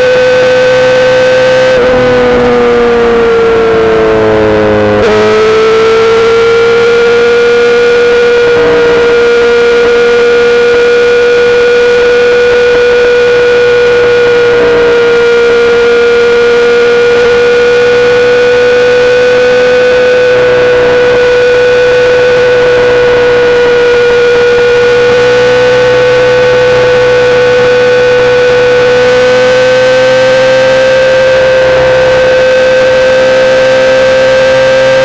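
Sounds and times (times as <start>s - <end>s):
motorcycle engine cruising drone: 0.0s - 35.0s.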